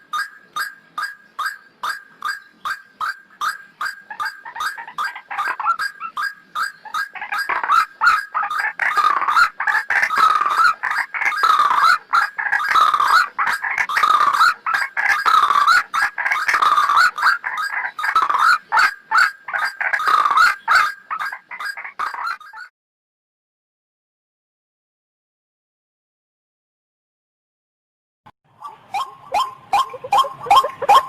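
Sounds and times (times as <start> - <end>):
bird calling repeated notes: 0.0 - 22.7, 28.5 - 31.0.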